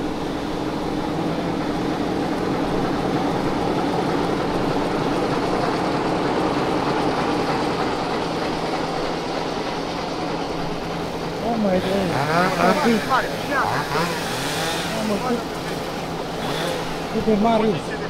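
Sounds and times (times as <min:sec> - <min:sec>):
locomotive engine idling: 0:00.0 - 0:18.0.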